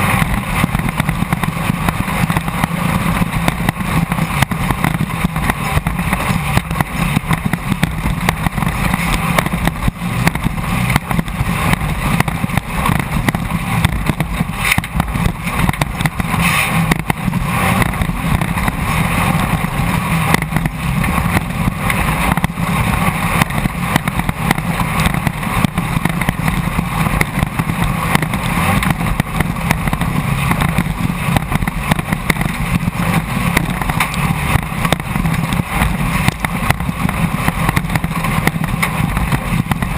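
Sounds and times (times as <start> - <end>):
race car engine running loud: 0.0 - 39.9.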